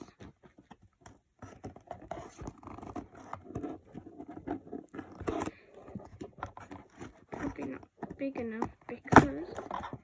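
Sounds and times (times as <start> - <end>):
cardboard being cut: 0.0 - 10.0.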